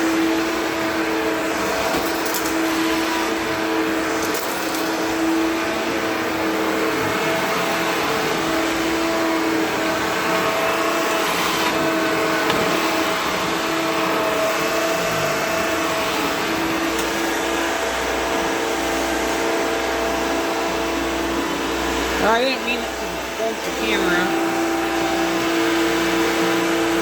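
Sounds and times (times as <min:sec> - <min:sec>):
upright vacuum cleaner running: 0:00.0 - 0:27.0.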